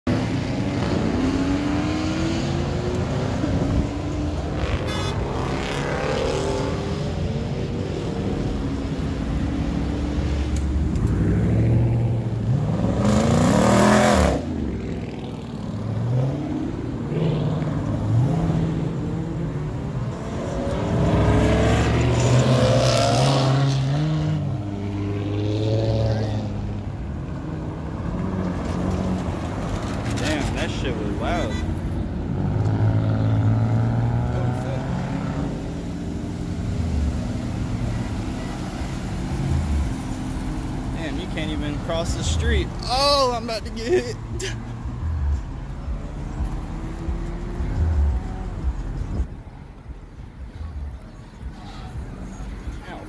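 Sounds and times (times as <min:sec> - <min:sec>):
cars accelerating hard: 0:00.1 - 0:49.4.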